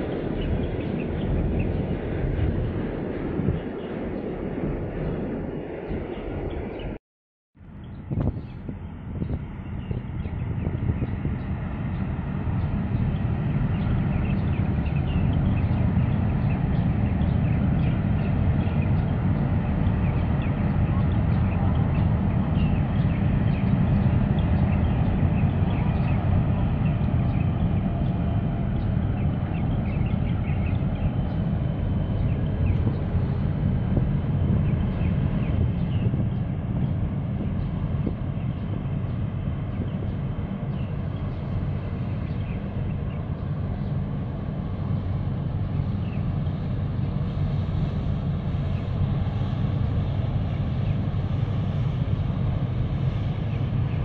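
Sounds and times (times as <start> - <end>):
ship low rumble: 0.0 - 7.0, 7.6 - 54.0.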